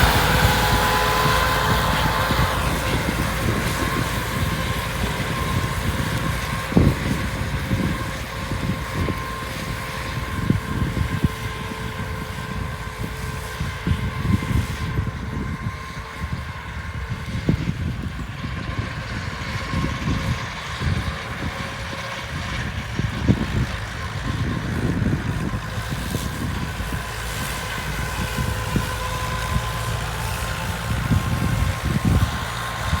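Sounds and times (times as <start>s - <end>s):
drum mower whine: 0.0s - 33.0s
tractor engine running: 0.0s - 33.0s.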